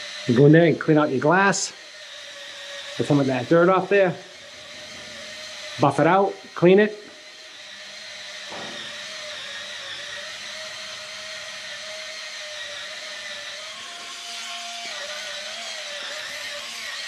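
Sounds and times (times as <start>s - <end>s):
spin scrubber motor whine: 0.0s - 17.0s.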